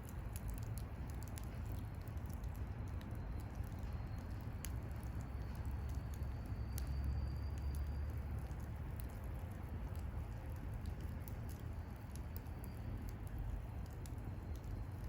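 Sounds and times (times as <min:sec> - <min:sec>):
bonfire crackles and pops: 0:00.0 - 0:15.0
low fire rumble: 0:00.0 - 0:15.0.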